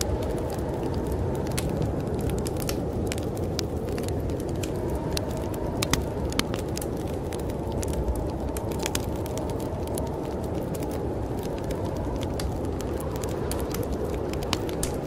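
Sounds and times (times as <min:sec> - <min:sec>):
snowstorm wind rushing: 0:00.0 - 0:15.0
wood fire crackling and popping: 0:00.0 - 0:15.0.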